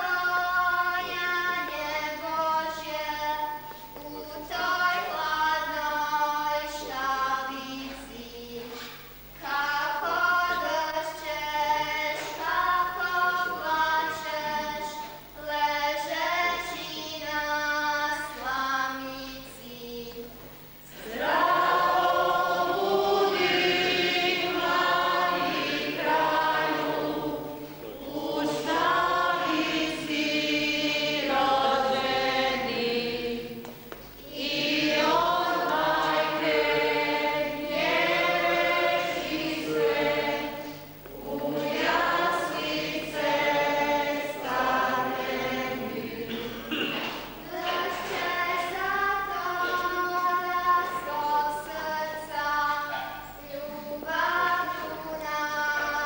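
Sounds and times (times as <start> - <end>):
choir singing a hymn: 0.0 - 19.5, 20.8 - 56.0.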